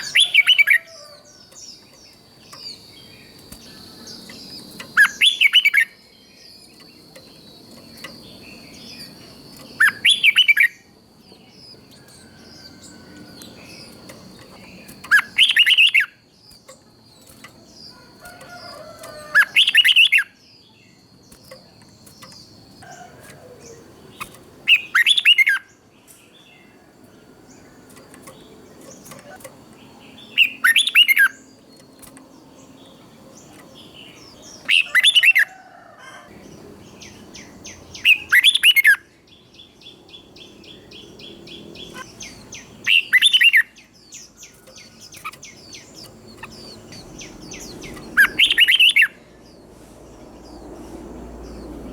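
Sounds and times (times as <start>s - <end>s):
bird singing warbled phrases: 0.0s - 35.5s, 36.4s - 50.8s.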